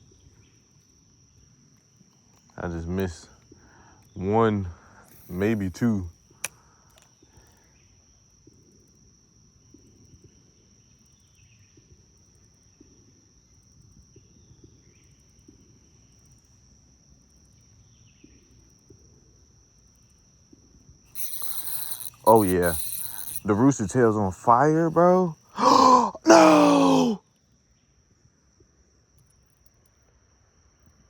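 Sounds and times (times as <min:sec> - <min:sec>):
faint insect chorus: 0:00.0 - 0:31.0.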